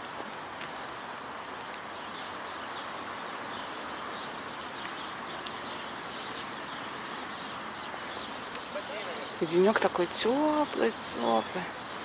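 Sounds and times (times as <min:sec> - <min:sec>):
city background hiss: 0:00.0 - 0:12.0
distant small birds chirping: 0:00.0 - 0:12.0.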